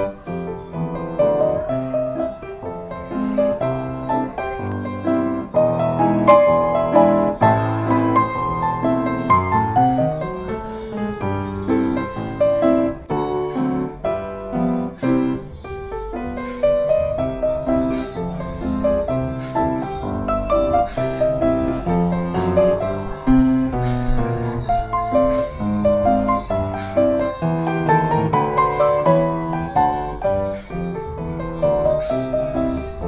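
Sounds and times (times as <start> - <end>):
ragtime solo piano: 0.0 - 33.0.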